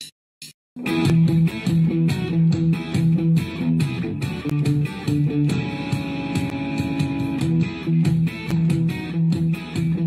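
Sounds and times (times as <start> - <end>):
guitar music with drum beat: 0.8 - 10.0.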